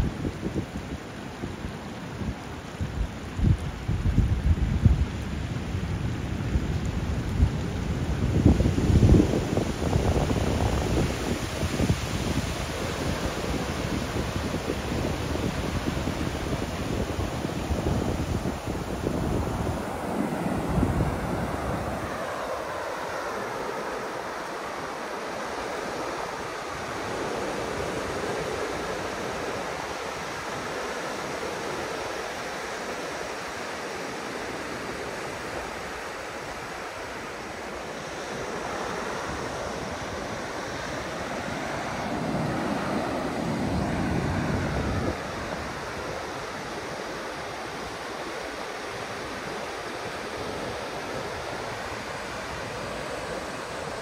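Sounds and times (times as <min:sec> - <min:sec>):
wind buffeting microphone: 0:00.0 - 0:30.8, 0:34.6 - 0:54.0
ocean surf hissing: 0:08.4 - 0:54.0.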